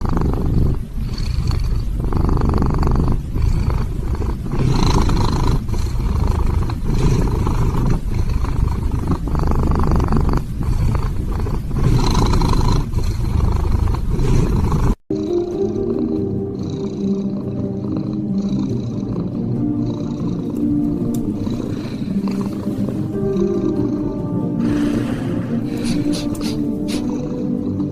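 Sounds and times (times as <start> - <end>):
cat snoring loudly: 0.0 - 27.9.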